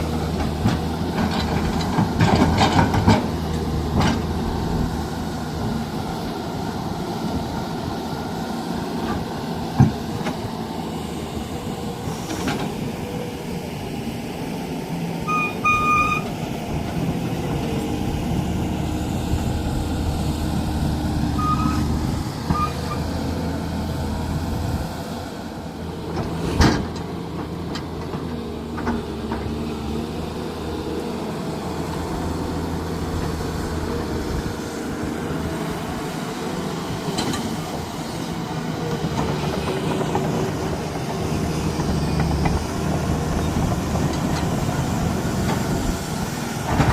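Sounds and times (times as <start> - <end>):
diesel machinery running: 0.0 - 46.9.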